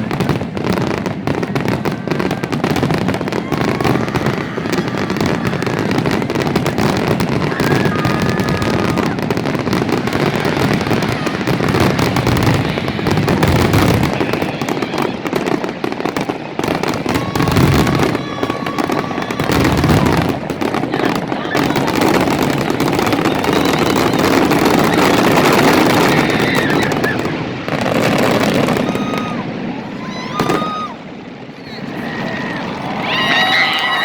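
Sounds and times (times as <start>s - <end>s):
fireworks bangs and crackles: 0.0s - 34.0s
fireworks whistling: 0.0s - 34.0s.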